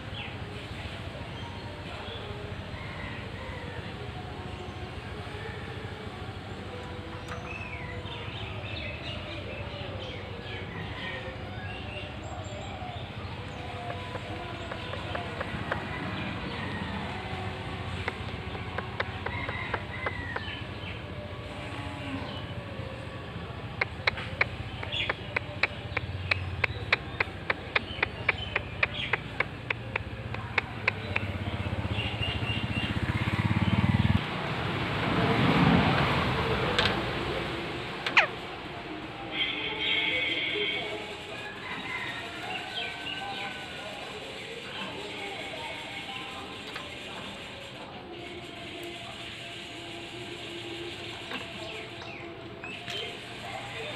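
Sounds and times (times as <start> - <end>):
birds chirping: 0.0 - 34.2, 37.9 - 53.9
steady background noise: 0.0 - 53.9.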